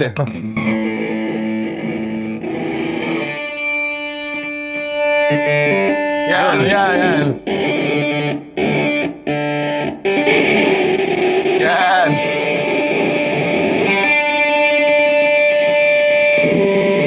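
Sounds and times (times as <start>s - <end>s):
fuzz electric guitar: 0.3s - 17.0s.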